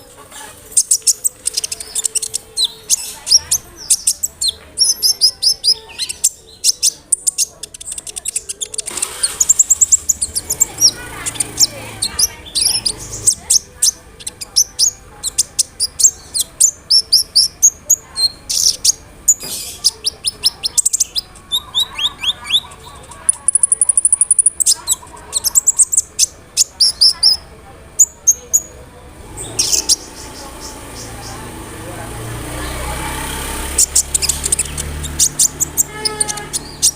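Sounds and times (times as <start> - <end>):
sunbird singing high chirps: 0.7 - 31.6, 32.6 - 36.9.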